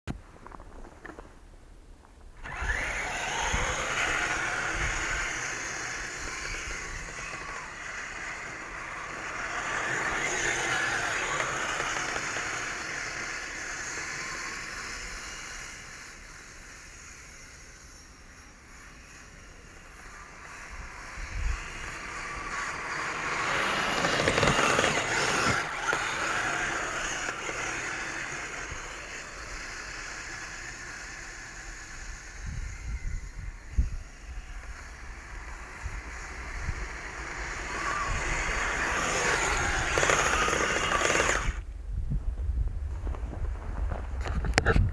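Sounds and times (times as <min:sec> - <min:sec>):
toy snowcat motors and tracks: 0:00.4 - 0:01.4, 0:02.4 - 0:41.7, 0:43.0 - 0:44.9.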